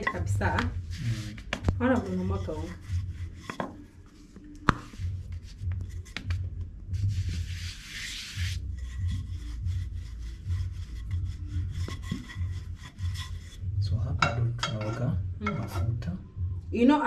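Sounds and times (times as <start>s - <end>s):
rolling pin rolling dough: 0.0s - 15.8s.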